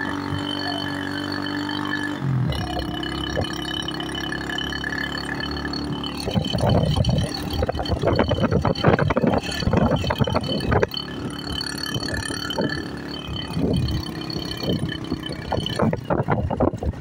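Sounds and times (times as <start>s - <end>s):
buffeting and rattling: 0.0s - 17.0s
vehicle engine running: 0.0s - 17.0s.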